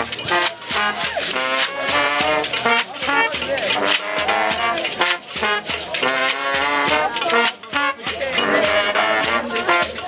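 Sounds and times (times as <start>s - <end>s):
upbeat latin music with horns: 0.0s - 10.0s.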